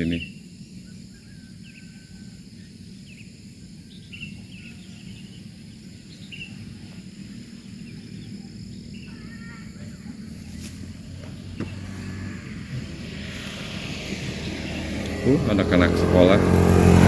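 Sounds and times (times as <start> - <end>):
small birds chirping: 0.0 - 16.8
high insect drone: 0.0 - 17.0
low background rumble: 0.2 - 17.0.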